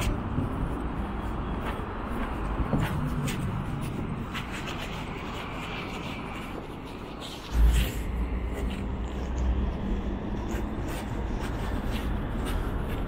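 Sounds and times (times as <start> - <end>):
city traffic noise: 0.0 - 13.0
footsteps on wooden decking: 0.0 - 13.0.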